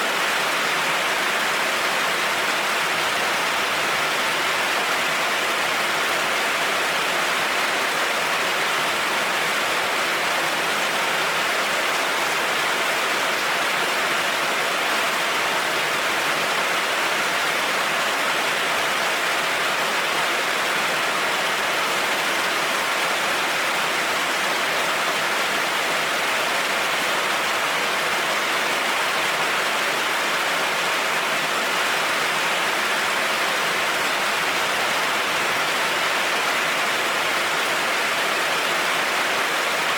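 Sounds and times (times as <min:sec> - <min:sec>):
heavy rain on a road: 0:00.1 - 0:39.9.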